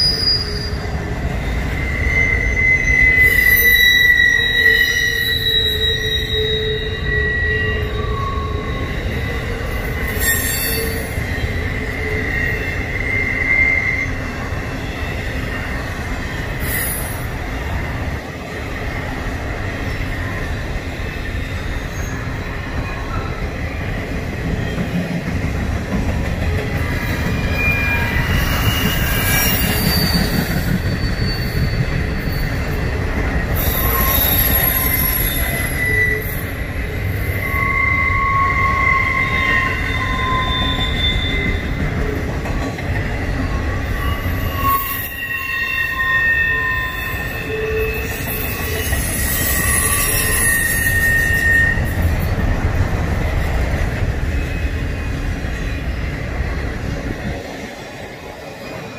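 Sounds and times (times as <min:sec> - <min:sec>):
high-pitched wheel squeals: 0:00.0 - 0:17.8, 0:19.8 - 0:25.0, 0:26.4 - 0:52.4
freight train wheels rumbling: 0:00.0 - 0:58.9.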